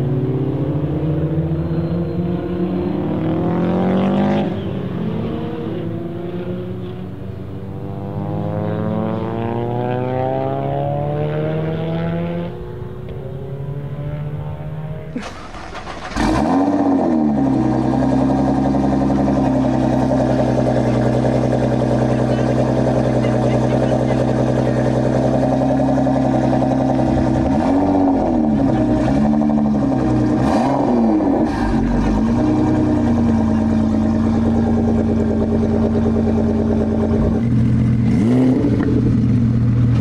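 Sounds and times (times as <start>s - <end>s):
cars accelerating past: 0.0s - 39.3s
car engine revving and idling: 0.0s - 40.0s.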